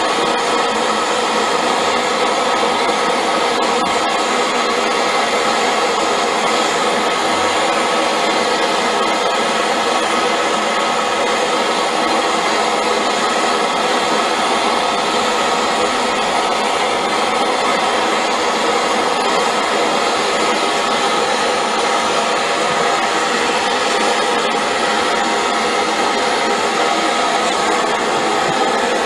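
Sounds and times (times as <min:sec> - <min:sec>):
propane torch hissing: 0:00.0 - 0:29.0.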